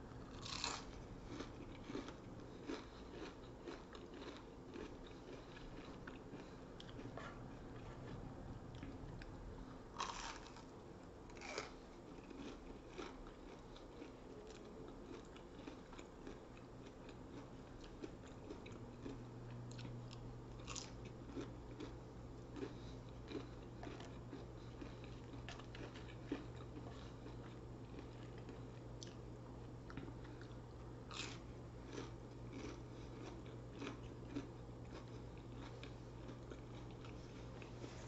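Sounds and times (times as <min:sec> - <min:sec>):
low steady hum: 0:00.0 - 0:38.0
person chewing crunchy food: 0:00.1 - 0:38.0.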